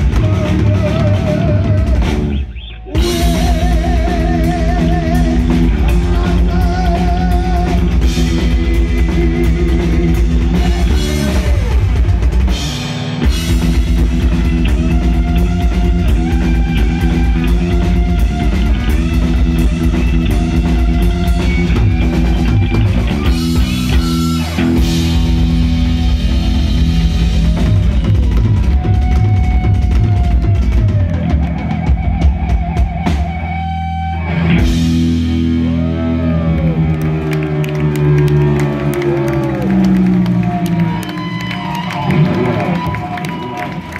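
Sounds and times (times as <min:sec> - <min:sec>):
heavy metal band playing: 0:00.0 - 0:43.9.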